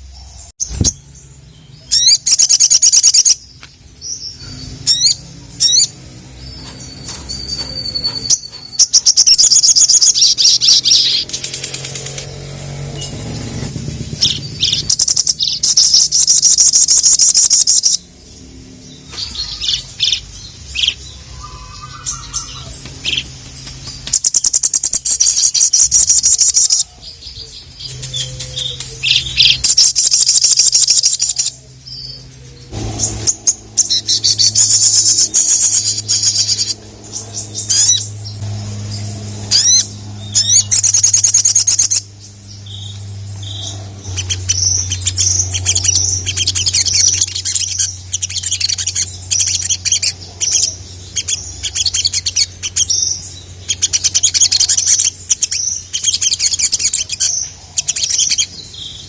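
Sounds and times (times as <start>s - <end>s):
bird chirps: 0.0s - 59.0s
low hum: 0.0s - 59.0s
bird singing high-pitched trills: 0.1s - 59.0s.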